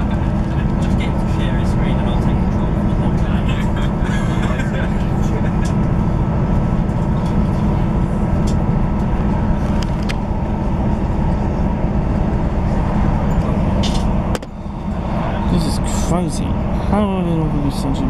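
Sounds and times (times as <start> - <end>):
train cabin engine and wheel rumble: 0.0 - 18.0.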